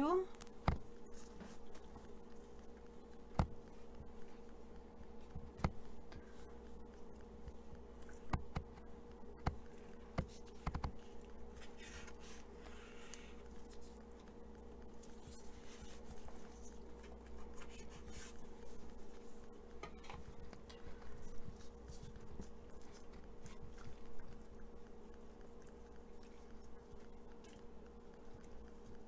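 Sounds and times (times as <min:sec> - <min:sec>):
steady buzzing hum: 0:00.0 - 0:29.0.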